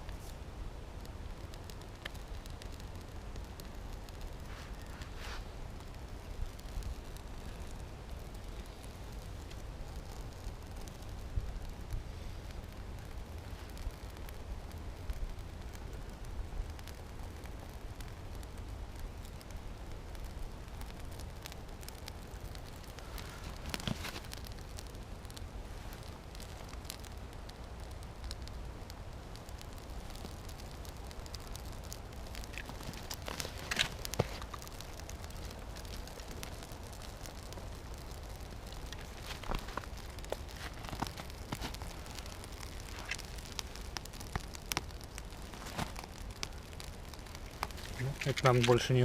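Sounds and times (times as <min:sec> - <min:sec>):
campfire crackling and snapping: 0:00.0 - 0:49.0
low fire rumble: 0:00.0 - 0:49.0.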